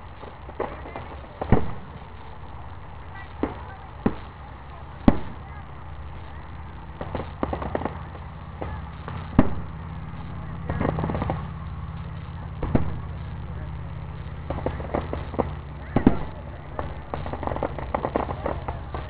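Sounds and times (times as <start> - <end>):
fireworks bangs: 0.0 - 19.0
fireworks crackling: 0.0 - 19.0
steady low rumble: 0.0 - 19.0.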